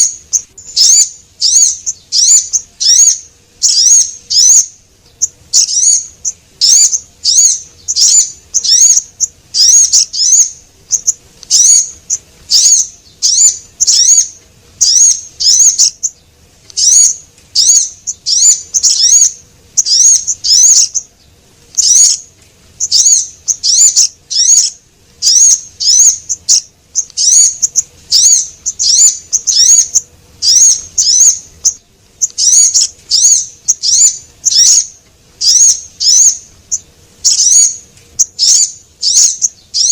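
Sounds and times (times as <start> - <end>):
songbird high chirps: 0.0 - 39.9.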